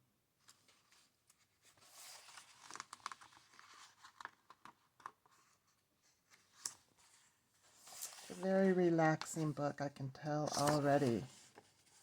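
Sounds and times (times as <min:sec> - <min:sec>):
book pages rustling: 0:00.4 - 0:09.6, 0:10.4 - 0:12.0.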